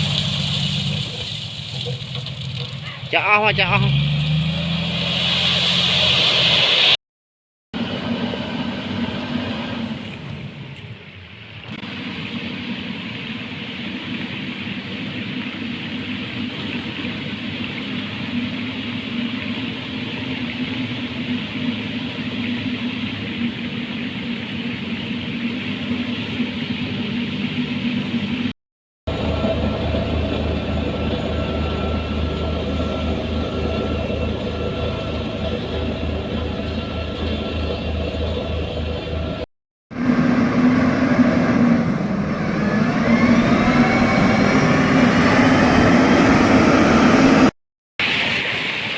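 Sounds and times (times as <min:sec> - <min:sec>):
construction machinery engines running: 0:07.8 - 0:28.5, 0:29.1 - 0:48.9.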